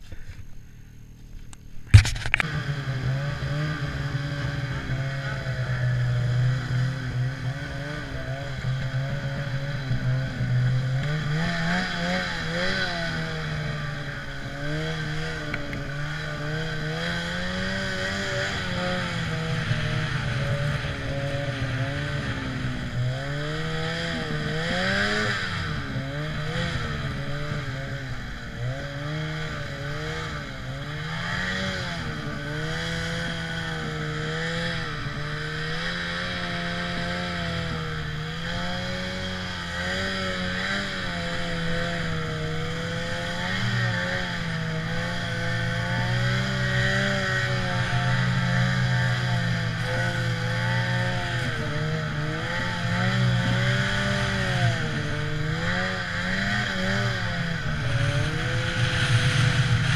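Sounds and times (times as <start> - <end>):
snowmobile engine revving: 1.9 - 59.9.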